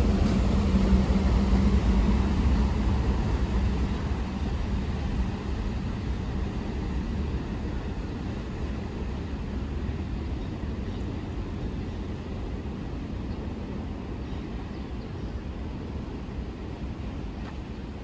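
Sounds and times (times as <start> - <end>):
electric train rumbling away: 0.0 - 17.3.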